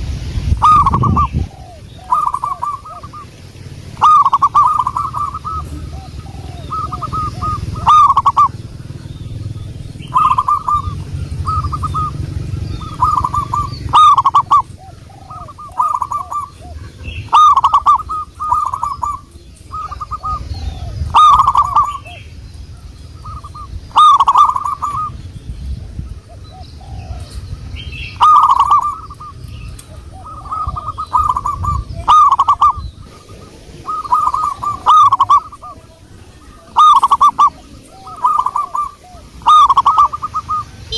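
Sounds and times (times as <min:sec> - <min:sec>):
doves cooing: 0:00.0 - 0:40.9
low background rumble: 0:00.0 - 0:40.9.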